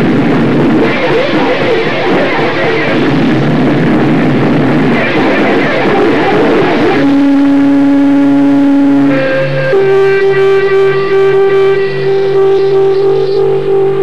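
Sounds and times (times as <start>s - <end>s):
distorted electric guitars and bass: 0.0s - 14.0s
steady held guitar note: 0.0s - 14.0s.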